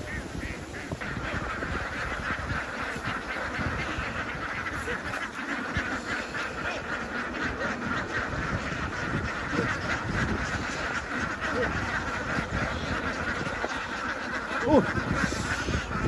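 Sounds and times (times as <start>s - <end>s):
flock of ducks quacking: 0.0s - 16.0s.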